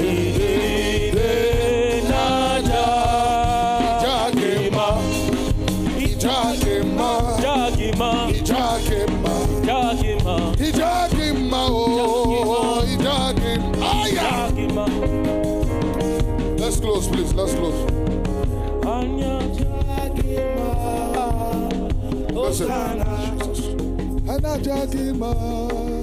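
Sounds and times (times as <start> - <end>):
person singing gospel music: 0.0 - 26.0.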